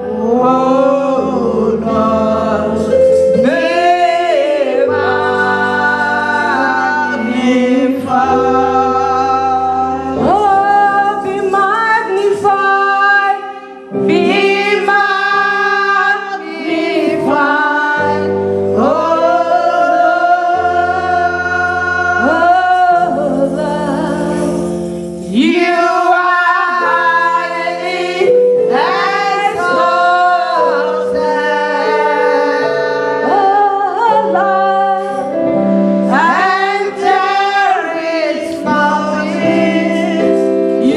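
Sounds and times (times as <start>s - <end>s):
gospel choir and lead singer: 0.0s - 40.9s
keyboard accompaniment: 0.0s - 40.9s.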